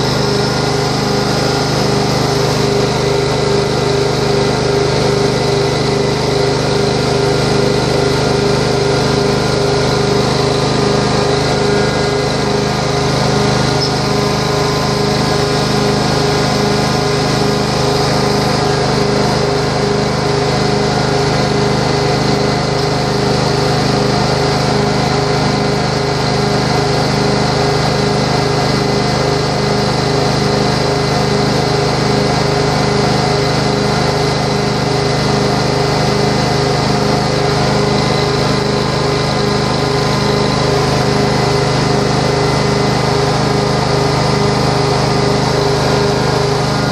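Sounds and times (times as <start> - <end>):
carpet cleaning machine droning: 0.0 - 46.9.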